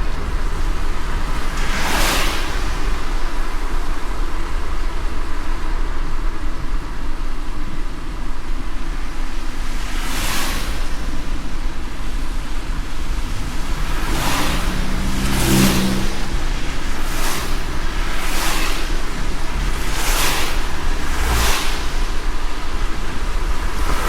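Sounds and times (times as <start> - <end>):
rain and spray hissing: 0.0 - 7.6, 8.4 - 24.0
car engine and tyres rumbling: 0.0 - 24.0.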